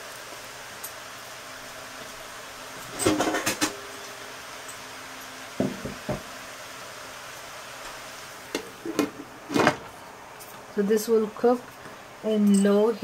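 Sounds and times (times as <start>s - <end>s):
squash sizzling in a pan: 0.0s - 3.0s, 3.8s - 12.2s.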